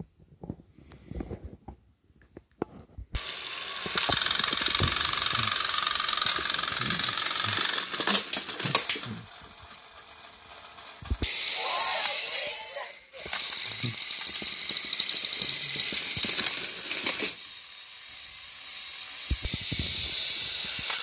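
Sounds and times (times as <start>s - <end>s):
toy train motors whirring: 3.2s - 21.0s.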